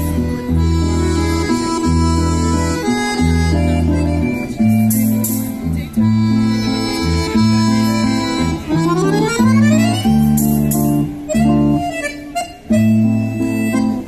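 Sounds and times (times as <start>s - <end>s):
instrumental music with bass line: 0.0s - 14.0s.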